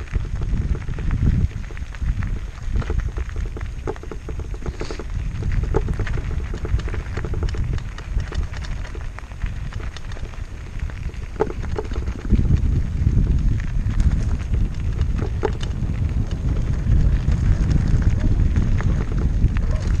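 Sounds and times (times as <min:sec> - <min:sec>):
bike rattling and clicking: 0:00.0 - 0:20.0
tyres crunching on gravel: 0:00.0 - 0:20.0
wind rumble on microphone: 0:00.0 - 0:20.0.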